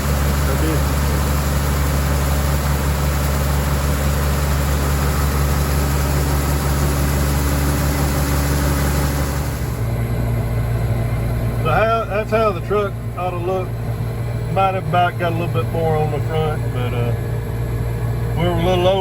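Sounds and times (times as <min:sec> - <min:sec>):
tractor engine running under load: 0:00.0 - 0:19.0.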